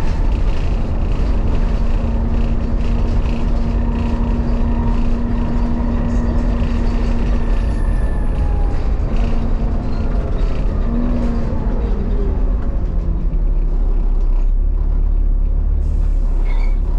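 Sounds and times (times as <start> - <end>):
bus engine rumble: 0.0 - 16.9.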